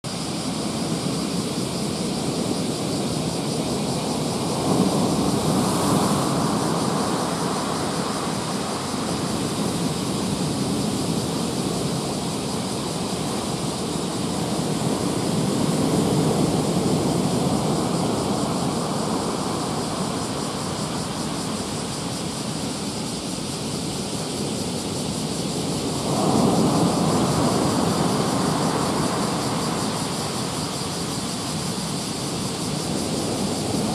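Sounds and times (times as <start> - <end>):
waves breaking in rough sea: 0.1 - 33.9.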